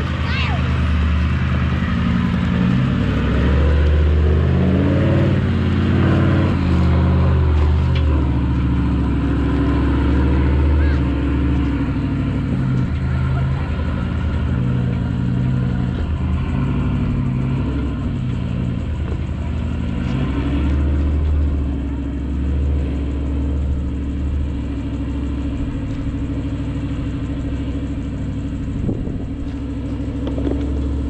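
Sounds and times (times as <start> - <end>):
engine humming and revving: 0.0 - 31.0.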